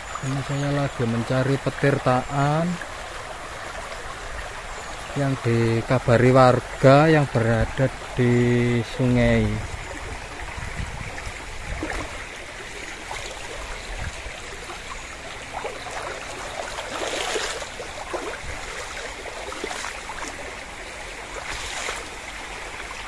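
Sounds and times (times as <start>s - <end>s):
stream running: 0.0s - 23.0s.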